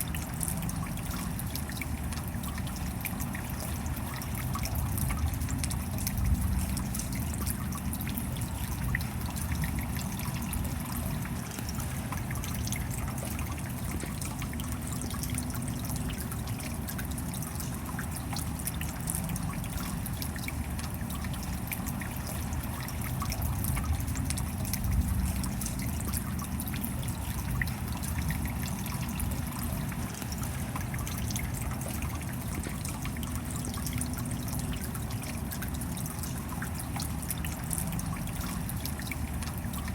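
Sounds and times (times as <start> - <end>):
steady rain falling: 0.0 - 39.9
water trickling: 0.0 - 39.9.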